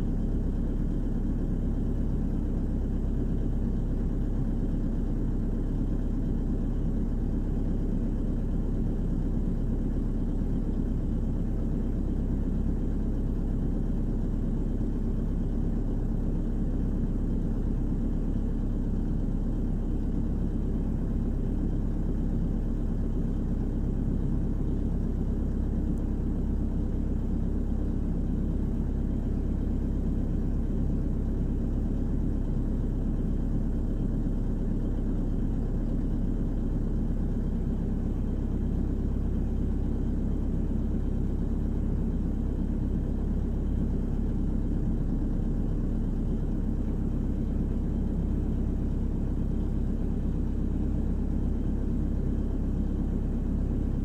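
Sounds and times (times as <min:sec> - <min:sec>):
diesel engine and hydraulics running: 0:00.0 - 0:54.0.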